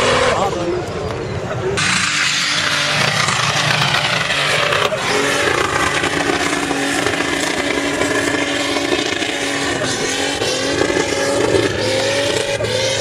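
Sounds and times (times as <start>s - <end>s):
suv engine under load: 1.8s - 13.0s.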